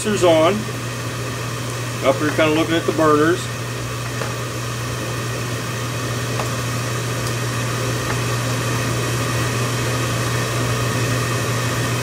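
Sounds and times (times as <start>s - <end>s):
furnace motor humming: 0.0s - 12.0s.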